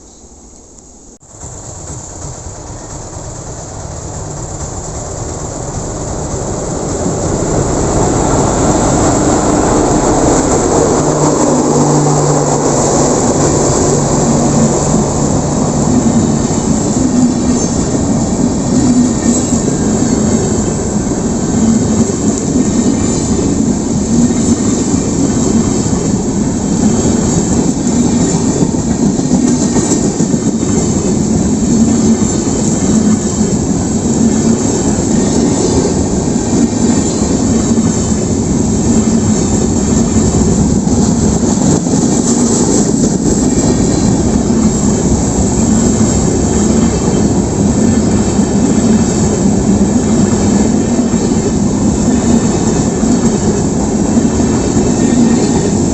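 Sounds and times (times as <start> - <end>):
train wheels rumbling on track: 0.0 - 55.9.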